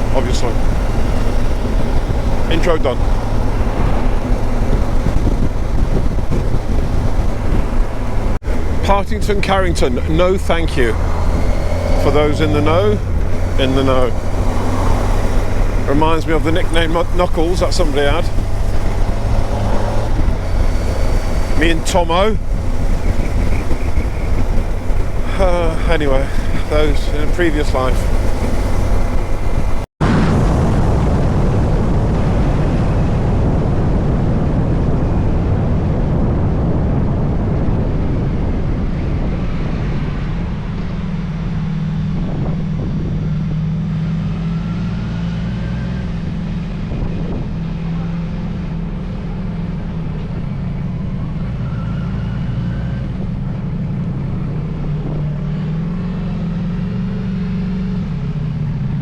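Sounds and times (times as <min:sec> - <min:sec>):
motorcycle engine drone: 0:00.0 - 0:59.0
rushing wind: 0:00.0 - 0:59.0.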